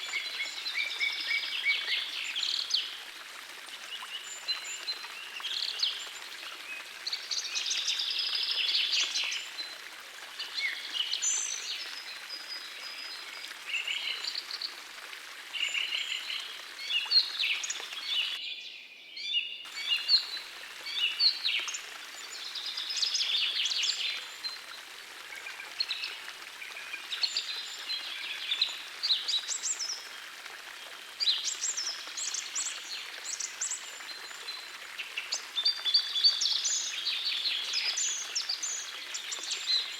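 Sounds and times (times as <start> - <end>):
forest stream rushing: 0.0 - 18.5, 19.7 - 39.9
songbirds singing and calling: 0.0 - 30.2, 30.8 - 39.9.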